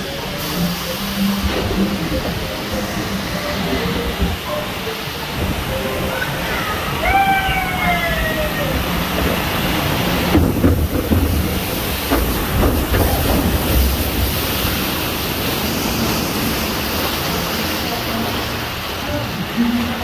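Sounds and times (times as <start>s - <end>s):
rushing water: 0.0s - 20.0s
knocks and water splashes: 1.2s - 20.0s.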